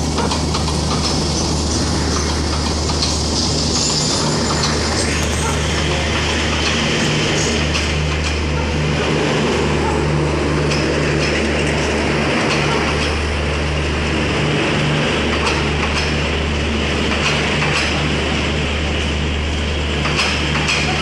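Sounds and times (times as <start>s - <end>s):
wheels clacking over rail joints: 0.0s - 19.2s, 19.8s - 21.0s
train wheels rumbling on rails: 0.0s - 21.0s.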